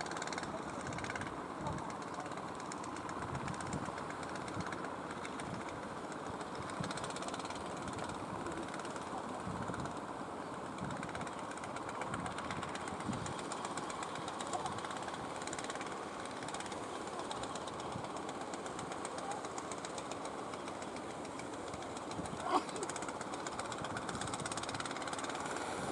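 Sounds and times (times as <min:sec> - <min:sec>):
boat engines running: 0:00.0 - 0:25.9.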